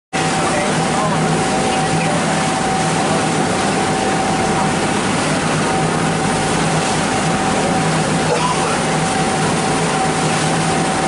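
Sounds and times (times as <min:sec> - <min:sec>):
constant whine: 0:00.2 - 0:11.0
engine drone: 0:00.2 - 0:11.0.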